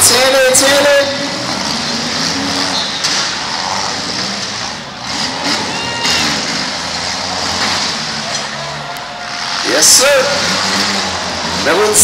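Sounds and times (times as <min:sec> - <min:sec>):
car engines revving: 0:00.0 - 0:12.0
cars colliding bangs: 0:00.0 - 0:12.0.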